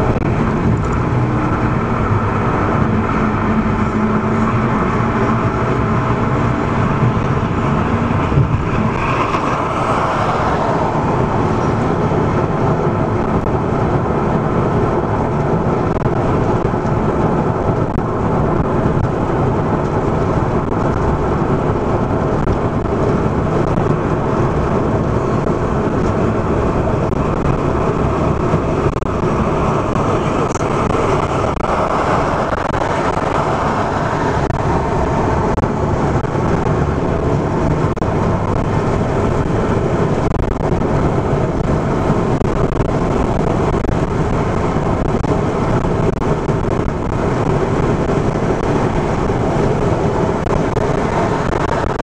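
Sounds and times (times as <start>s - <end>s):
car road noise from inside: 0.0s - 52.0s.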